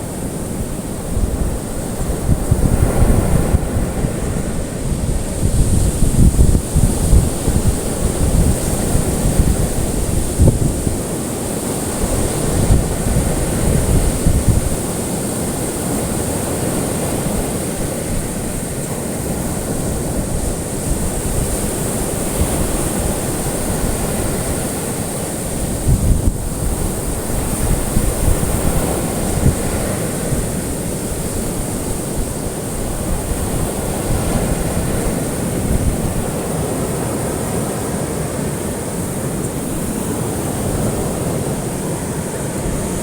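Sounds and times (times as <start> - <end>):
ocean waves washing on shore: 0.0 - 43.0.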